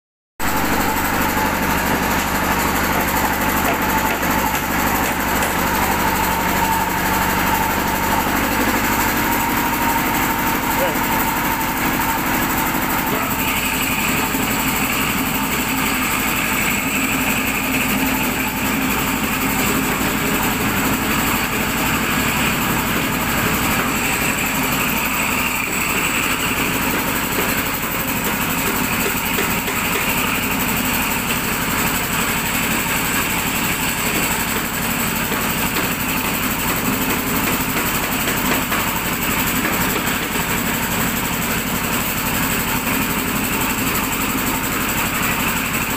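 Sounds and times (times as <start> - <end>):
concrete floor grinder running: 0.4 - 45.9.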